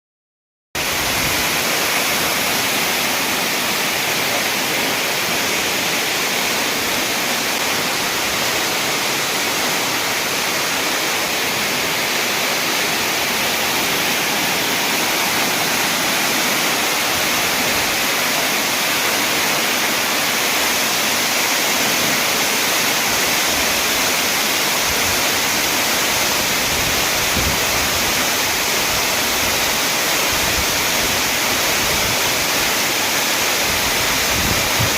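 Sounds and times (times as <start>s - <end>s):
waterfall rushing: 0.8s - 34.9s.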